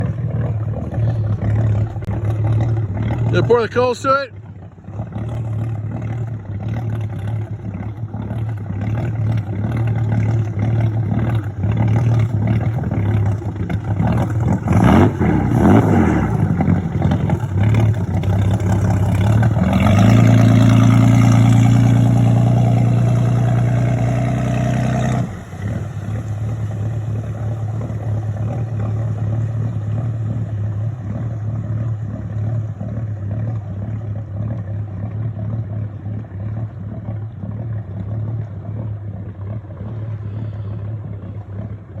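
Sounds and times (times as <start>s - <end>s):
boat engine exhaust burbling: 0.0s - 42.0s.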